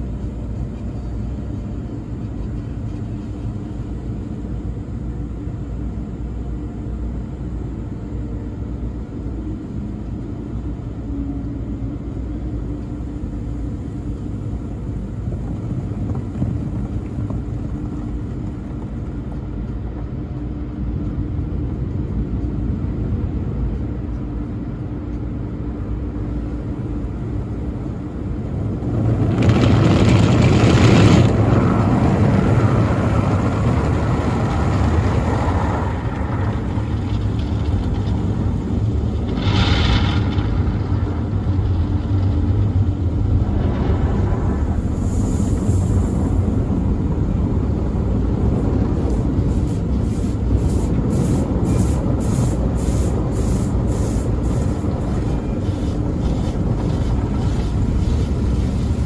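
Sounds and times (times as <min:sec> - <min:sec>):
car wash machinery rumble: 0:00.0 - 0:59.0.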